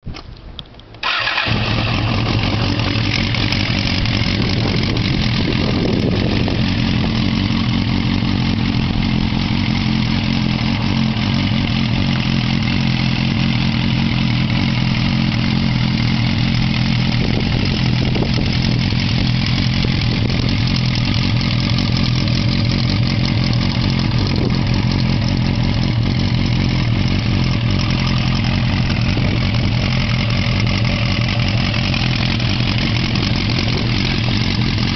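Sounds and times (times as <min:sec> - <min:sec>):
motorcycle engine starting and idling: 0:00.1 - 0:34.9.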